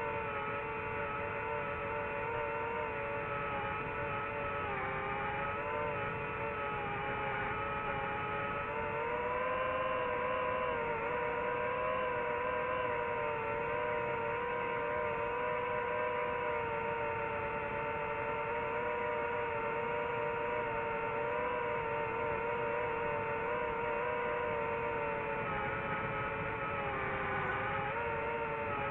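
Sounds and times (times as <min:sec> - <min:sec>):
drone propellers whining: 0:00.0 - 0:28.9.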